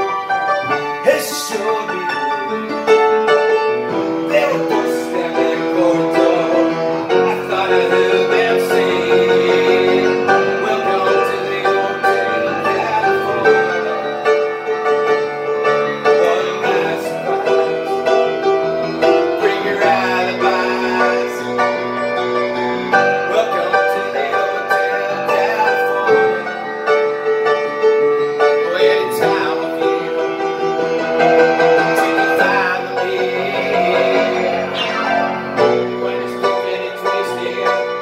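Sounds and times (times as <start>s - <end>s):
upright piano playing: 0.0s - 38.0s
man singing: 0.6s - 22.2s, 22.8s - 27.8s, 28.4s - 38.0s.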